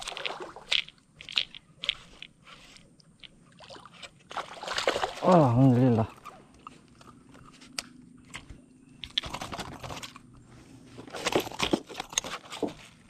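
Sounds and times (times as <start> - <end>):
fishing tackle crackling and clicking: 0.0 - 4.4, 5.9 - 13.0.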